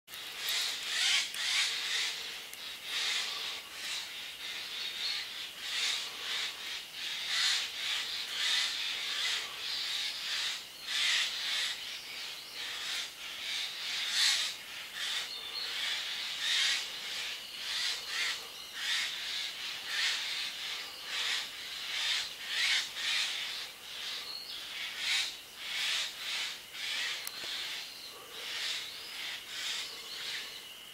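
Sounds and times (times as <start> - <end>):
jays calling: 0.1 - 30.6.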